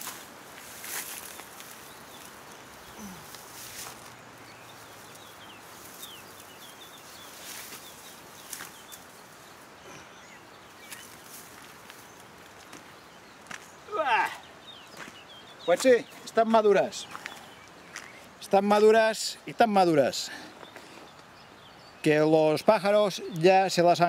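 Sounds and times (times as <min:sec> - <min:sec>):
leaves and branches rustling: 0:00.0 - 0:23.9.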